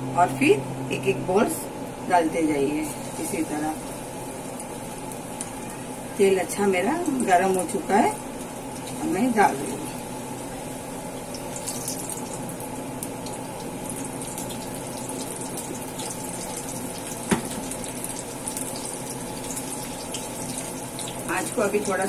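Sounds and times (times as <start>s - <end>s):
food deep-frying in oil: 2.0s - 22.0s.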